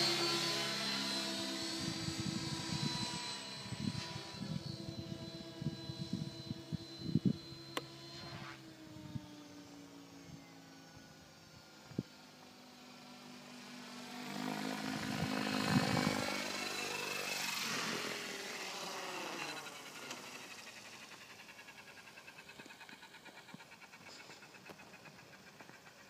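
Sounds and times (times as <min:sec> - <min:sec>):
helicopter rotor blades whooshing: 0:00.0 - 0:26.0.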